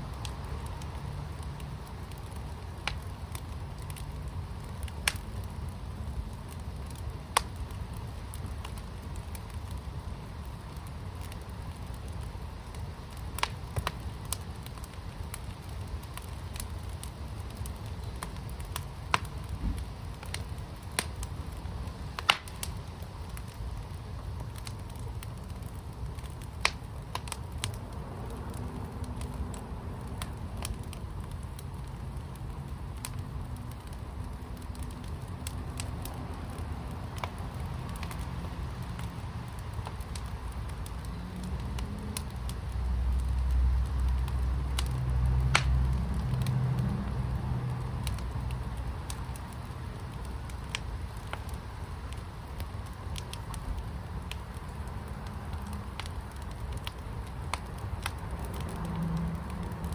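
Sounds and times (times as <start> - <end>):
wood fire crackling: 0.0 - 59.9
sharp fire pops: 0.1 - 59.9.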